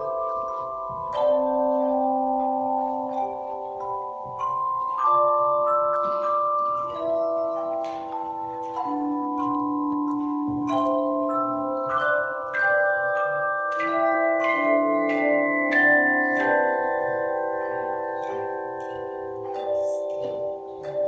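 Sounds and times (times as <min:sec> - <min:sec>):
handbell choir playing chords: 0:00.0 - 0:21.0.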